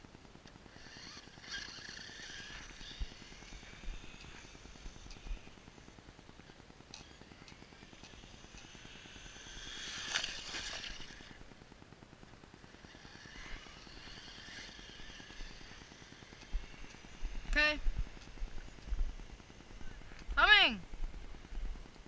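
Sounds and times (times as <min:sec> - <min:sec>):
rc truck motor whine: 0:00.0 - 0:20.6.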